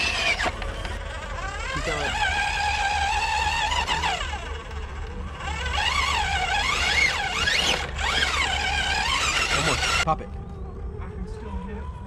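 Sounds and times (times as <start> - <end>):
electric motor whining: 0.0 - 10.1.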